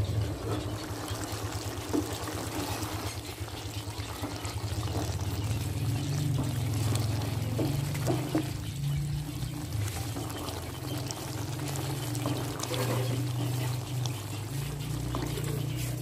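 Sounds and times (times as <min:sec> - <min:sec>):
curry bubbling in a pot: 0:00.0 - 0:16.0
gas burner rumble: 0:00.0 - 0:16.0
wooden spoon stirring: 0:00.2 - 0:16.0.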